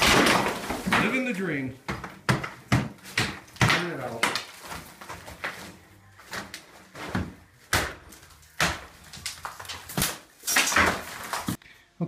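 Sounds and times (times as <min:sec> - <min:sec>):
plaster cracking and crashing down: 0:00.0 - 0:01.3, 0:02.3 - 0:11.6.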